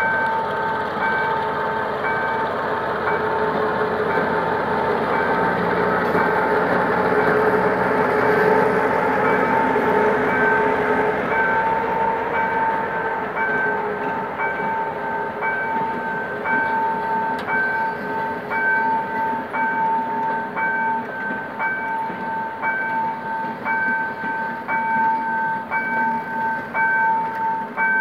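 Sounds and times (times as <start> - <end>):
train coaches rumbling: 0.0 - 28.0.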